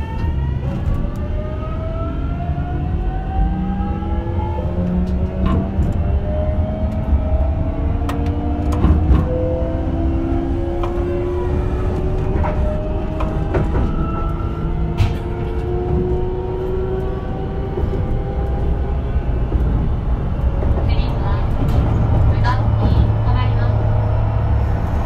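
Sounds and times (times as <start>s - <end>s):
train running gear rumble: 4.4s - 25.0s.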